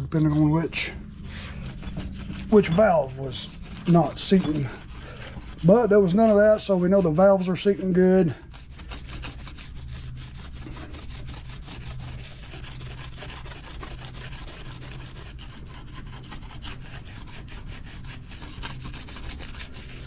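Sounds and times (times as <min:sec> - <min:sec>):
scouring pad scrubbing metal: 0:00.0 - 0:20.0.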